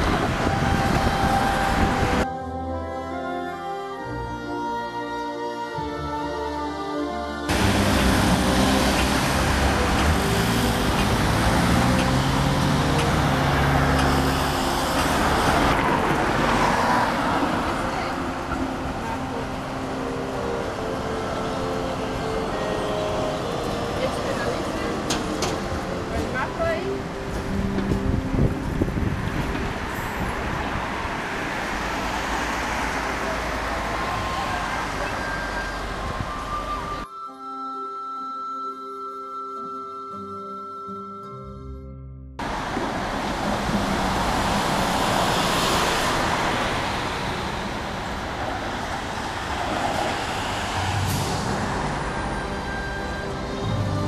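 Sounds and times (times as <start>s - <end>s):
tram passing: 0.0s - 4.2s, 7.1s - 37.1s, 42.4s - 54.0s
rumble of engines and tyres: 0.0s - 4.4s, 6.0s - 37.1s, 42.4s - 54.0s
cars passing: 0.0s - 37.1s, 42.4s - 54.0s
street traffic noise: 0.0s - 54.0s.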